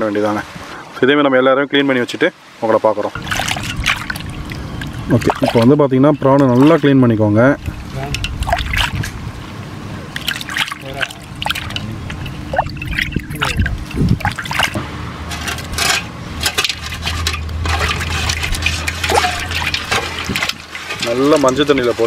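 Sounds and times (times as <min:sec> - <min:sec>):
water sloshing and splashing: 0:03.1 - 0:22.0.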